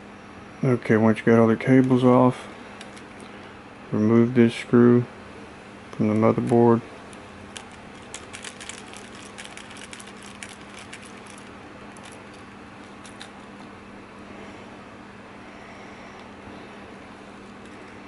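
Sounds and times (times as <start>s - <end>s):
faint hum and hiss: 0.0s - 18.0s.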